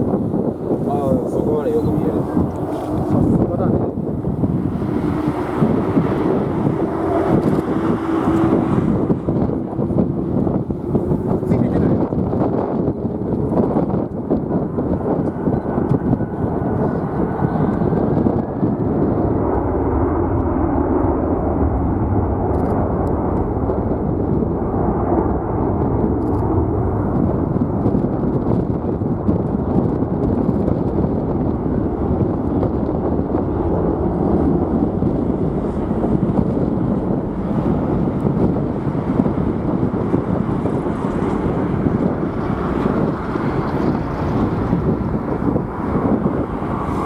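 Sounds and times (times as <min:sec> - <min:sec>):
jet engines roaring: 0:00.0 - 0:47.0
wind buffeting microphone: 0:00.0 - 0:47.0.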